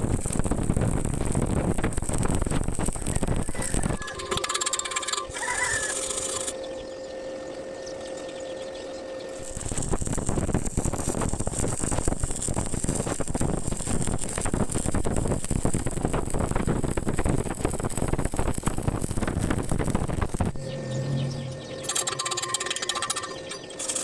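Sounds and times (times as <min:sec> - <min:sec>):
welding arc crackling: 0:00.0 - 0:24.0.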